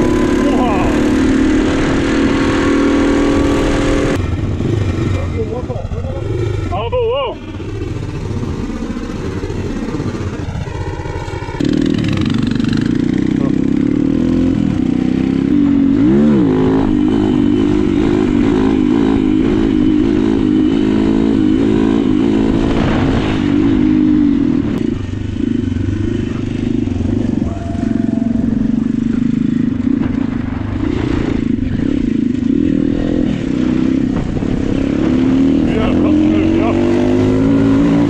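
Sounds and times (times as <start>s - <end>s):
go-kart engine revving: 0.0s - 38.0s.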